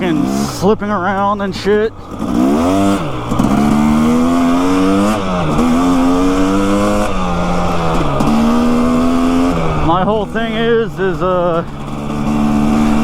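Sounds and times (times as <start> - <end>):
motorcycle engine shifting gears: 0.0 - 13.0
wind and road noise: 0.0 - 13.0.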